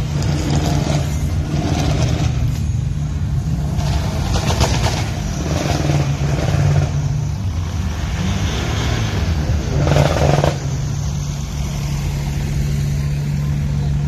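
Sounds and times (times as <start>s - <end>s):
cars driving slowly past: 0.0s - 14.0s.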